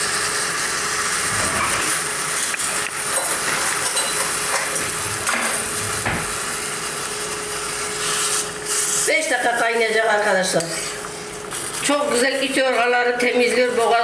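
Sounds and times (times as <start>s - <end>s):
water boiling hard: 0.0s - 14.0s.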